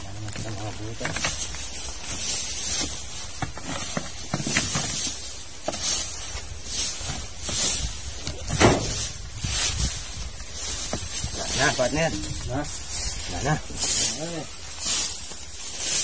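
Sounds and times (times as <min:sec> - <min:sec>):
dry leaves rustling: 0:00.0 - 0:16.0.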